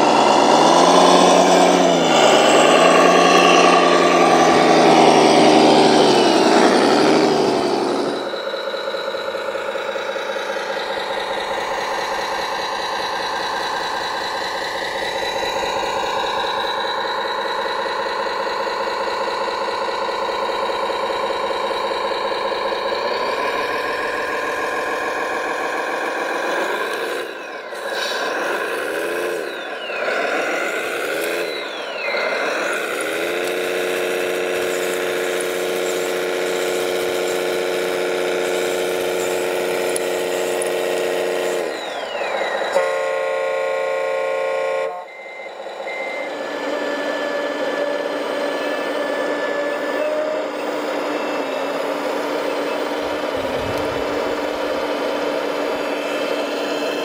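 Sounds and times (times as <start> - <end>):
model truck engine revving: 0.0 - 57.0.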